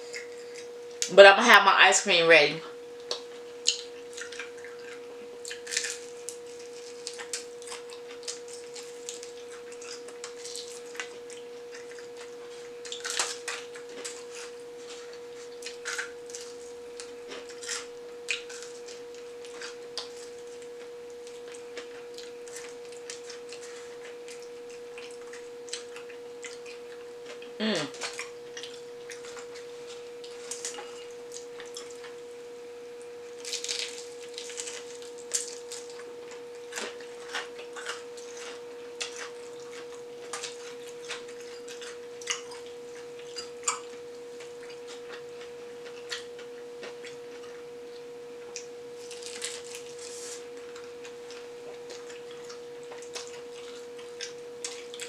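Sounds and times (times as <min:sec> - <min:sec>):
steady high hum: 0:00.0 - 0:55.0
crunching fried chicken: 0:03.0 - 0:32.2, 0:33.3 - 0:47.6, 0:48.5 - 0:55.0.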